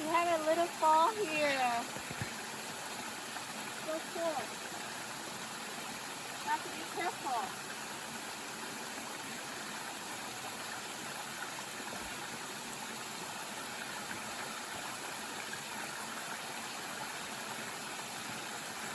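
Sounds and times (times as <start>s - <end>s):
water rushing over small fall: 0.0s - 18.9s.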